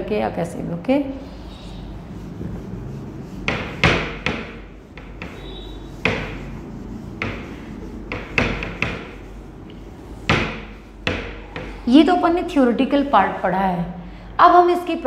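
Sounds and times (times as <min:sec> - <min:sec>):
duster scrubbing whiteboard: 0:01.0 - 0:13.5.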